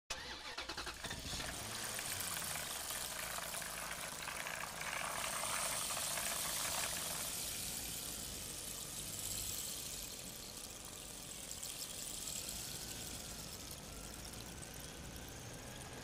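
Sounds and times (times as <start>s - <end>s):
toy truck wheels rolling on concrete: 0.1s - 16.0s.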